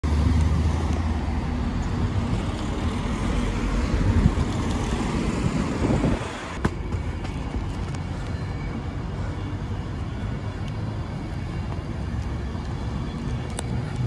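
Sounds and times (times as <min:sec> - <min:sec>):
cars passing on road: 0:00.0 - 0:14.0.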